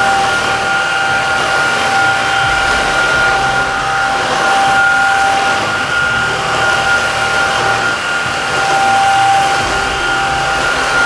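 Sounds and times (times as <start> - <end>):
stick vacuum running: 0.0 - 11.0.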